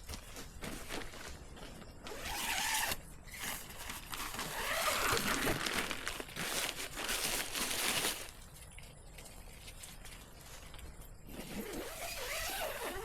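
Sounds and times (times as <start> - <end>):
crinkling rustling noise: 0.0 - 13.0.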